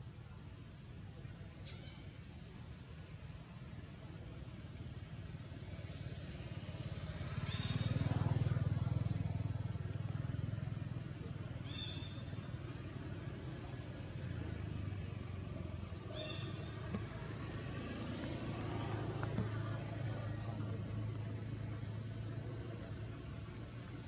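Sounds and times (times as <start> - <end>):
low engine hum: 0.0 - 24.0.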